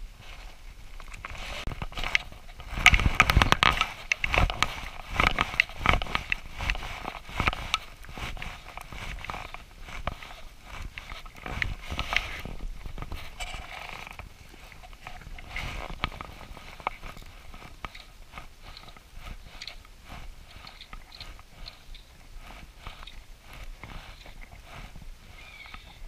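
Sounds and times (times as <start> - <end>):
hands handling fishing rod: 0.3 - 26.0.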